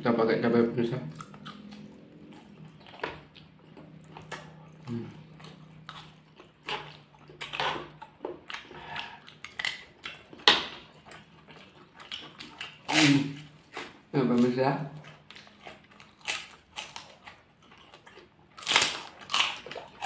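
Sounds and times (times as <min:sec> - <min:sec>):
faint low hum: 0:00.0 - 0:20.0
chewing and crunching food: 0:00.9 - 0:20.0.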